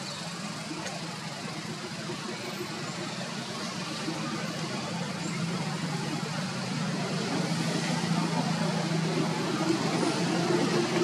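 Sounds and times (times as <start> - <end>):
traffic noise: 0.0 - 11.0
vehicle engine humming: 0.0 - 11.0.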